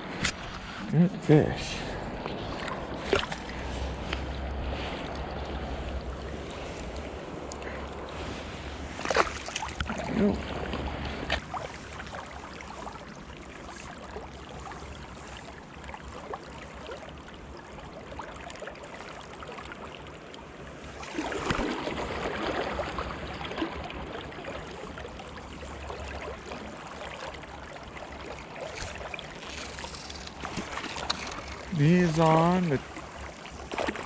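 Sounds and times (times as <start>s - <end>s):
river water rushing: 0.0s - 14.7s, 20.9s - 34.0s.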